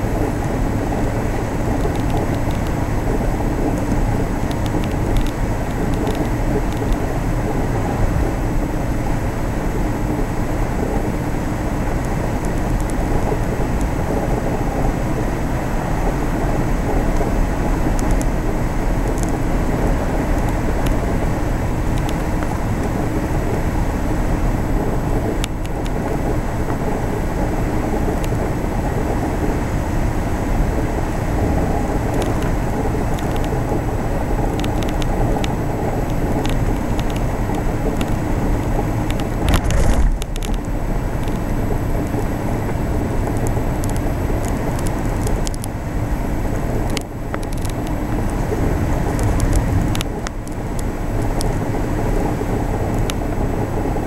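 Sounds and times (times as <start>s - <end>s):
vehicle engine and tyres on sand: 0.0s - 54.0s.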